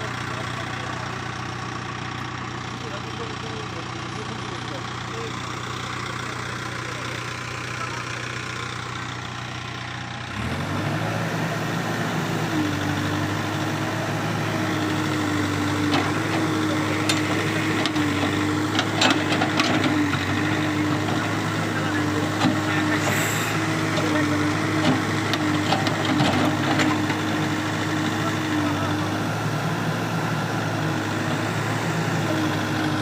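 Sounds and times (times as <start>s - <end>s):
diesel engine idling and revving: 0.0s - 33.0s.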